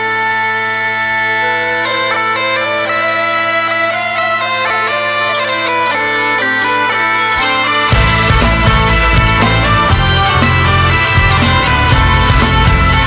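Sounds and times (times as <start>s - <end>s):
bagpipe music: 0.0s - 13.0s.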